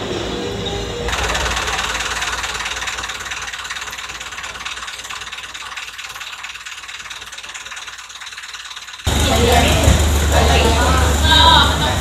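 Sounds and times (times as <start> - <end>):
boat engine chugging: 0.9 - 12.0.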